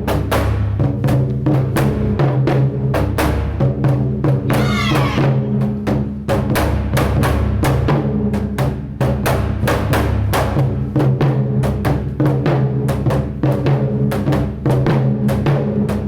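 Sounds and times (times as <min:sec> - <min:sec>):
taiko drums ensemble: 0:00.0 - 0:16.0.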